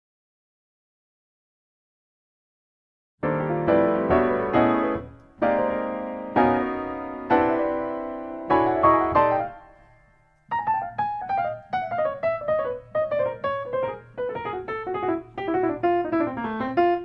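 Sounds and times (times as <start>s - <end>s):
jazz piano notes descending: 3.2s - 17.0s.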